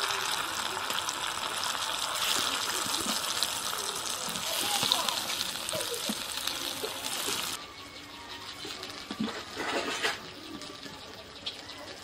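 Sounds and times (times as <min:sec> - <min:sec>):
food sizzling in hot oil: 0:00.0 - 0:07.6, 0:08.2 - 0:12.0.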